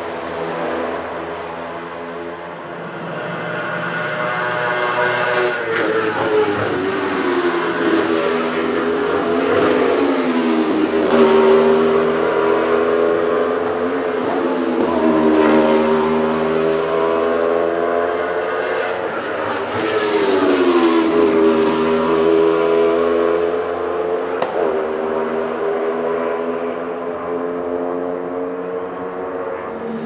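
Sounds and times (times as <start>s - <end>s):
race car passing by: 0.0s - 27.0s, 27.8s - 30.0s
race car engine accelerating: 0.0s - 30.0s.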